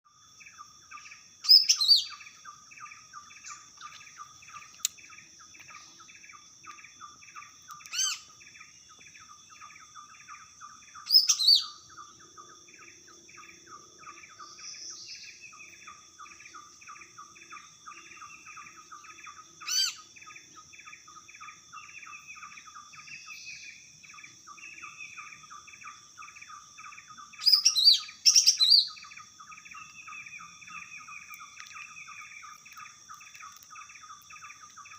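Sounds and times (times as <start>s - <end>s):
bird song bursts: 0.3s - 34.9s.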